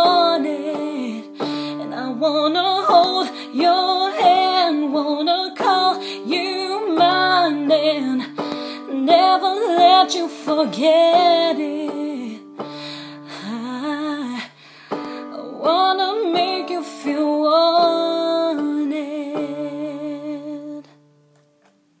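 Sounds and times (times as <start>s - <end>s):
woman singing wordlessly: 0.0s - 21.0s
keyboard chords: 0.0s - 21.9s.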